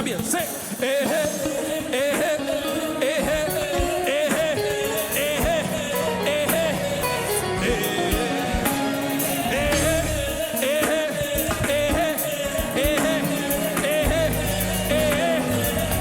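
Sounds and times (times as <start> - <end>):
band with keyboard playing: 0.0 - 16.0
voices singing: 0.0 - 16.0.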